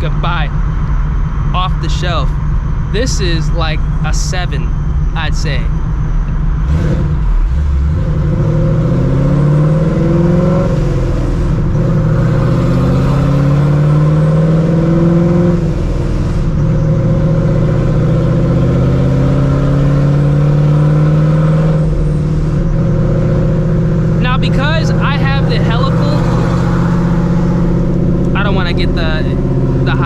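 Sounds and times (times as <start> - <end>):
car engine revving through gears: 2.8 - 30.0.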